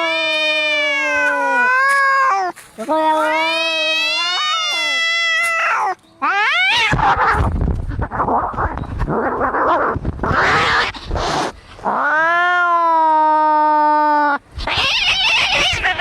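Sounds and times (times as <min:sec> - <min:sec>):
cat yowling: 0:00.0 - 0:07.5, 0:09.2 - 0:11.0, 0:11.9 - 0:16.0
cat caterwauling: 0:00.0 - 0:11.0, 0:11.8 - 0:16.0
cats hissing and growling: 0:00.0 - 0:16.0.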